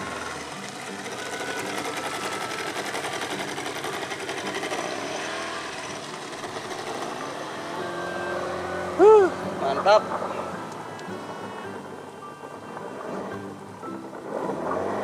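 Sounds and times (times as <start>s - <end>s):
outboard motor buzzing: 0.0s - 15.0s.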